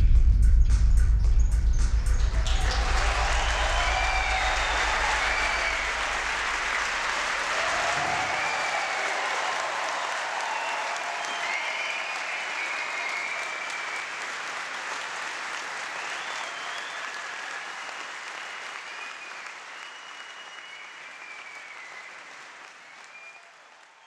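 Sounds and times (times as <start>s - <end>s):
audience applauding: 2.2s - 24.0s.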